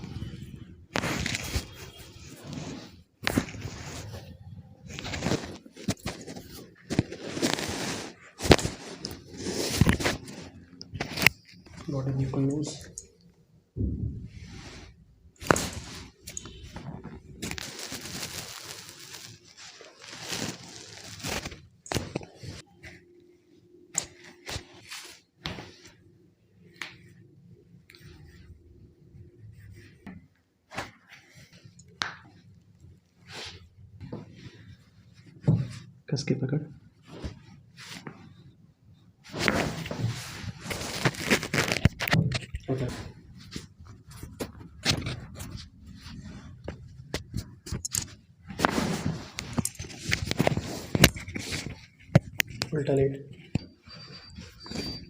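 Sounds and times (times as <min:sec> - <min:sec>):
soft rustling: 0:00.0 - 0:13.4, 0:14.1 - 0:55.0.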